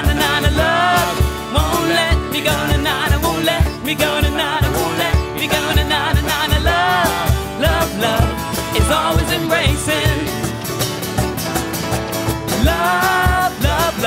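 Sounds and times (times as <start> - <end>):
person singing: 0.0 - 10.6, 12.5 - 14.0
steady drum beat: 0.0 - 14.0.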